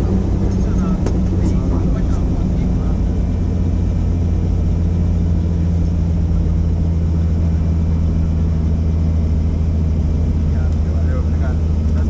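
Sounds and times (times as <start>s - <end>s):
helicopter drone inside cabin: 0.0s - 12.0s.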